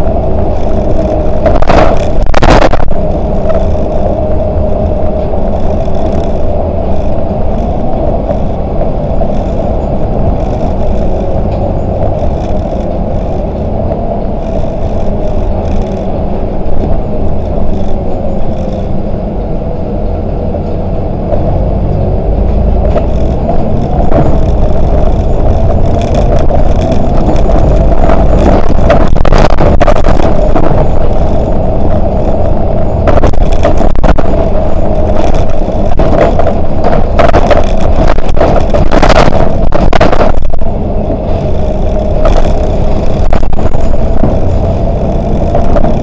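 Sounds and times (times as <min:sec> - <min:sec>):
bus engine whine: 0:00.0 - 0:46.0
road rumble: 0:00.0 - 0:46.0.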